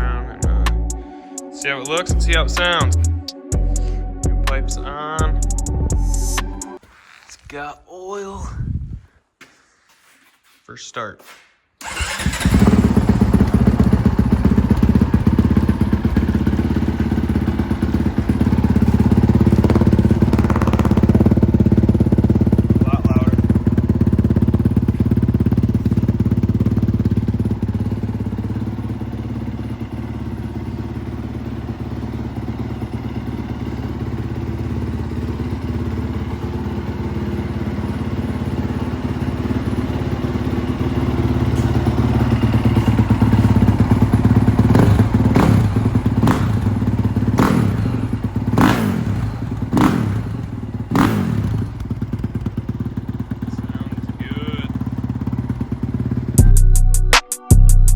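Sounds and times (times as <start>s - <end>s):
motorcycle engine idling: 0.0s - 1.1s, 1.9s - 4.6s, 11.8s - 57.9s
engine throttle blips: 0.0s - 6.8s, 11.8s - 56.8s.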